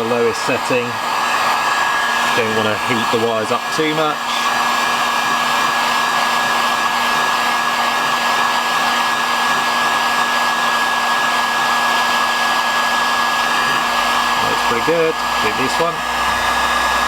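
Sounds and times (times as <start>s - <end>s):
heat gun blowing air: 0.0s - 17.0s.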